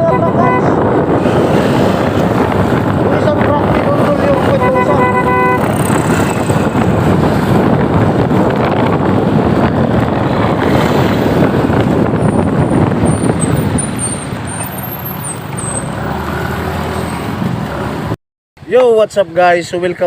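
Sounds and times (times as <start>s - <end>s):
wind buffeting microphone: 0.0s - 18.1s
traffic vehicle engines: 0.0s - 20.0s.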